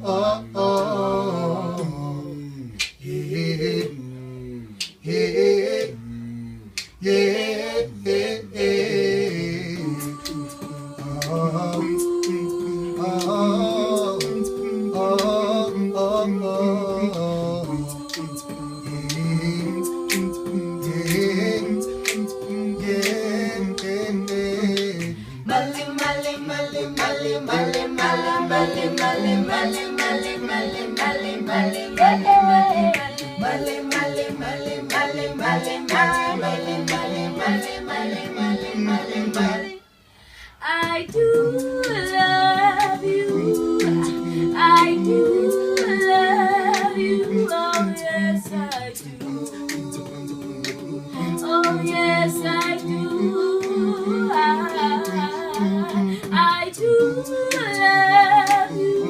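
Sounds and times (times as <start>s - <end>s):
vocal group singing in harmony: 0.0s - 59.0s
steady clicking beat: 9.2s - 39.6s, 40.8s - 59.0s.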